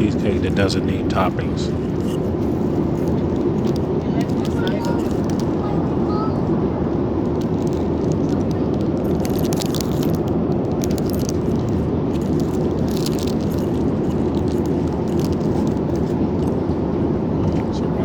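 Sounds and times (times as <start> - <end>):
meal tray rustling: 0.0 - 5.8, 7.1 - 16.8
airliner cabin drone: 0.0 - 18.0.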